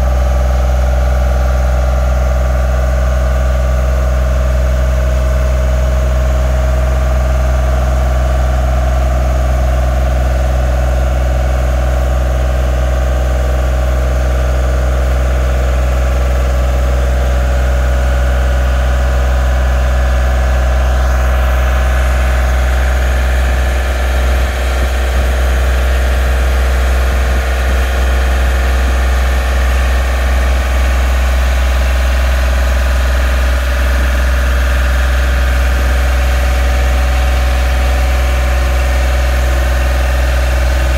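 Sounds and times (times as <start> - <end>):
engine low drone: 0.0 - 40.9.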